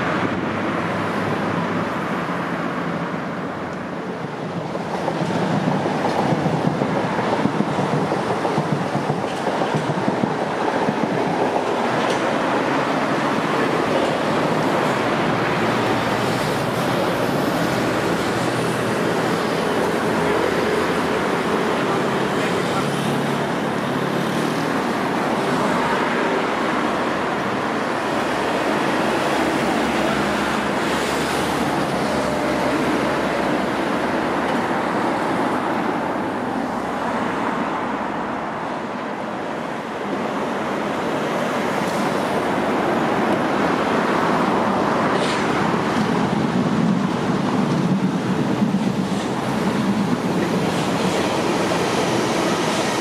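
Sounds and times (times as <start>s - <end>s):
trains rumbling on tracks: 0.0s - 53.0s.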